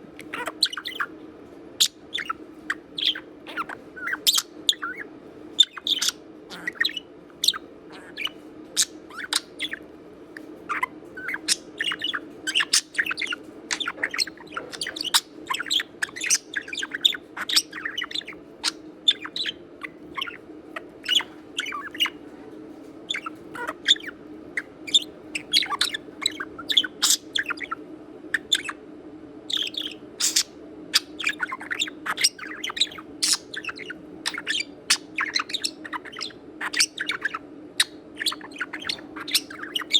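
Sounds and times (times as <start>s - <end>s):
low steady hum: 0.0s - 39.9s
budgerigar chattering: 0.2s - 1.1s, 1.8s - 9.8s, 10.7s - 22.2s, 23.1s - 27.8s, 29.5s - 39.9s.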